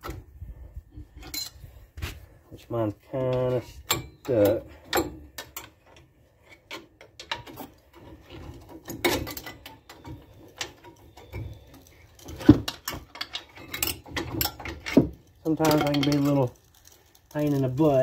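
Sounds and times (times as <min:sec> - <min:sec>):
metal clinks and knocks: 0:01.1 - 0:01.6, 0:03.2 - 0:17.5.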